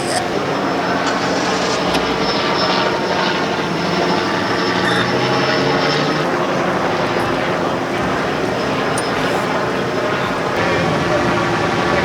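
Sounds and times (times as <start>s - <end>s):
loud engine noise: 0.0s - 12.0s.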